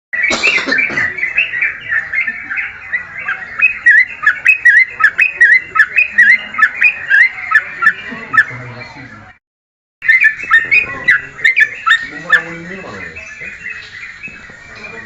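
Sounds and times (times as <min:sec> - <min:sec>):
songbird chirping: 0:00.2 - 0:09.4, 0:10.0 - 0:15.0.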